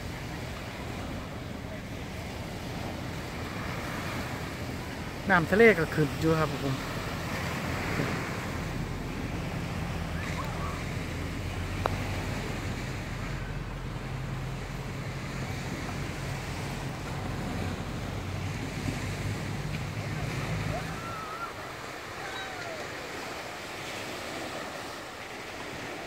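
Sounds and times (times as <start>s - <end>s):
small waves washing onto shore: 0.0s - 26.0s.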